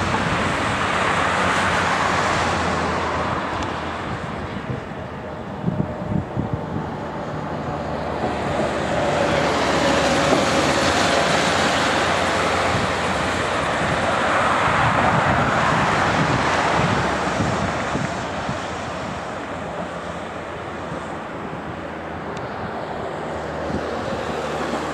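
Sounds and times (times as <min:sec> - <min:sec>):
distant jet airliner engine: 0:00.0 - 0:24.9
wind on microphone: 0:00.0 - 0:24.9.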